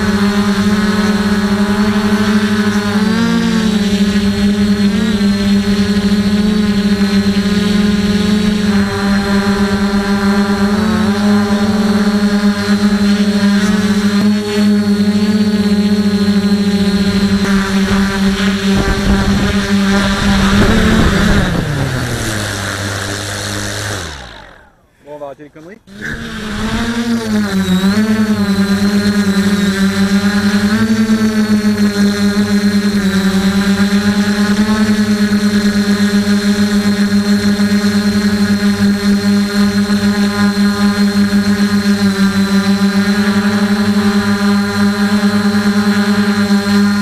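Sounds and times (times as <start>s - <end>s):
quadcopter motors humming: 0.0s - 47.0s.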